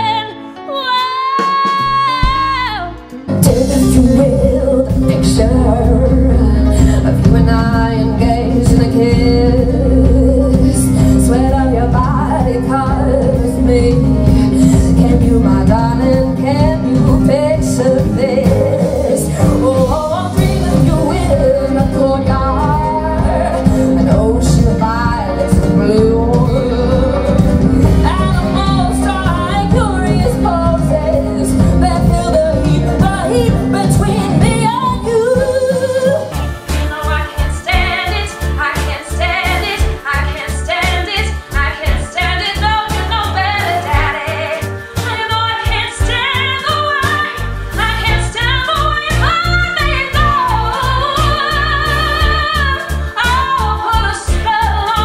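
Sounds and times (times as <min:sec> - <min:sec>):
live band guitar and drums: 0:00.0 - 0:55.0
woman singing: 0:00.0 - 0:55.0.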